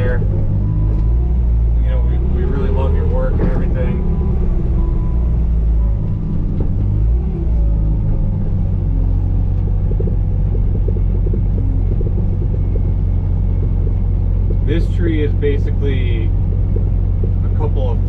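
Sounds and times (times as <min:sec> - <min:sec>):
diesel engine rumbling: 0:00.0 - 0:18.0.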